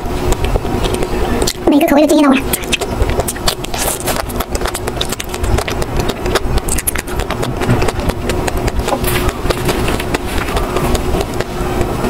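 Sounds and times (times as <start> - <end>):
person chewing ice cream: 0.0 - 12.0.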